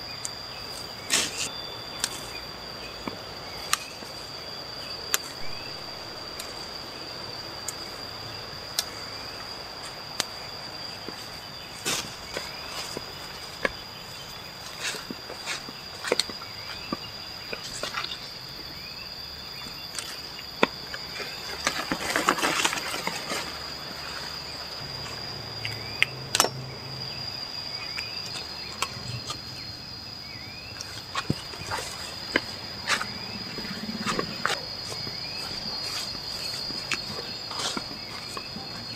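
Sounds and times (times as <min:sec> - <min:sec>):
high insect drone: 0:00.0 - 0:38.9
leaves and stems rustling: 0:00.0 - 0:38.9.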